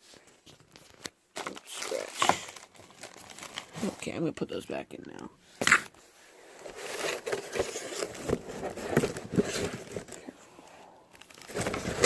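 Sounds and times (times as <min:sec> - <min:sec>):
cardboard and plastic rustling: 0:00.0 - 0:04.4, 0:05.8 - 0:12.0.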